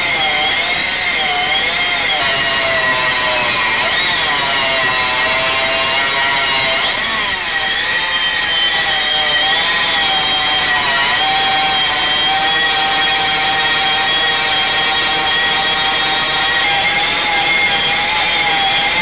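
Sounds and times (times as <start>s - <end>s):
stone cutting machine whine: 0.0s - 19.0s.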